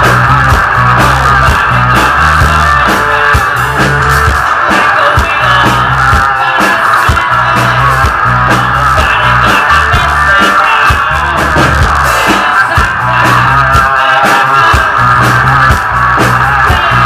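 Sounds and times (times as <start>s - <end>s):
bass guitar notes: 0.0s - 17.0s
drum kit beat: 0.0s - 17.0s
electric guitar: 0.0s - 17.0s.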